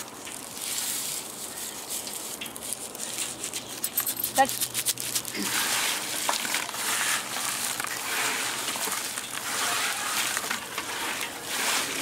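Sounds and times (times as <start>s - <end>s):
plantain chips rustling and crunching: 0.0s - 12.0s.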